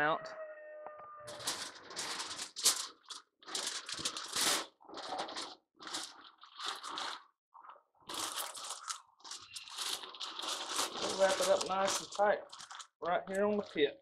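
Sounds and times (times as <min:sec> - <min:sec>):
aluminium foil crinkling: 0:01.2 - 0:13.9.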